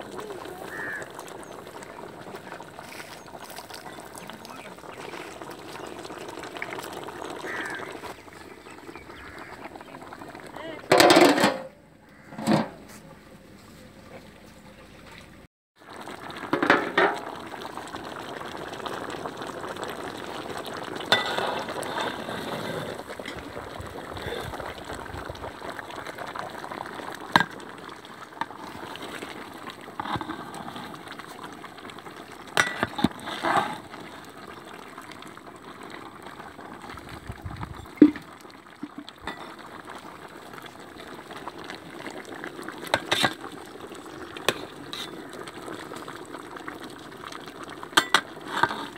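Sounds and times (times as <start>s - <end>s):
gravy bubbling in a pot: 0.0s - 11.1s, 14.2s - 48.9s.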